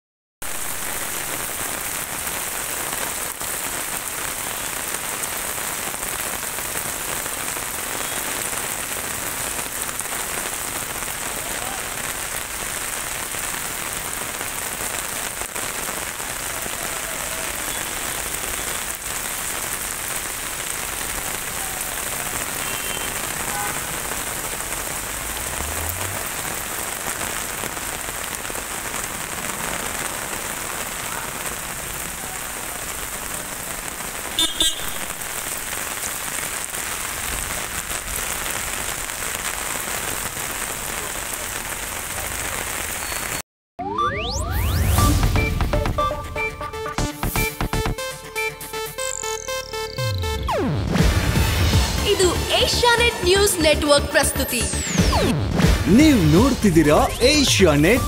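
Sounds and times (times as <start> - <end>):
heavy rain on street: 0.4 - 43.4, 50.5 - 58.0.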